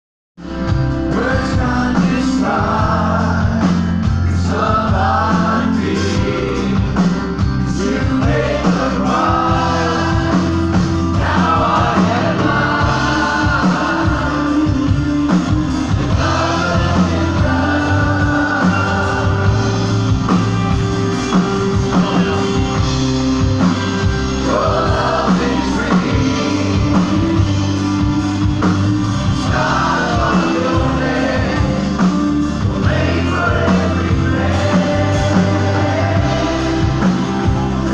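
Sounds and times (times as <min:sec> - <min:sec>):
band playing with steady beat: 0:00.4 - 0:37.9
congregation singing: 0:01.1 - 0:37.9.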